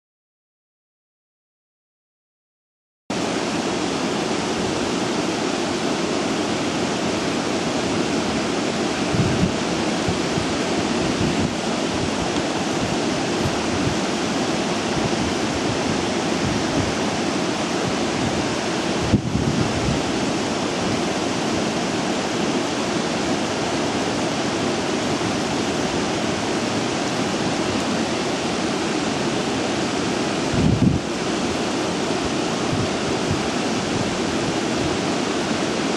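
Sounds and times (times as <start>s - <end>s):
water rushing: 3.1s - 35.9s.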